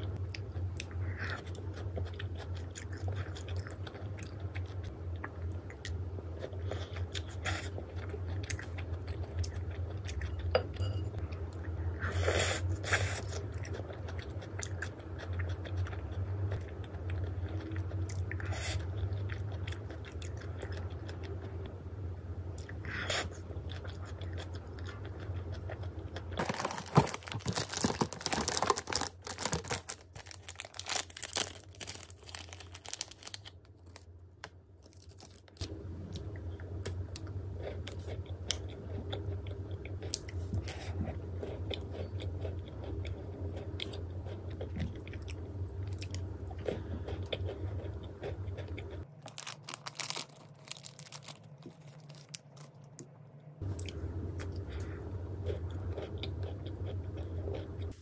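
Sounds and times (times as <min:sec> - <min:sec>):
crunching and chewing food: 0:00.0 - 0:21.7, 0:22.5 - 0:58.0.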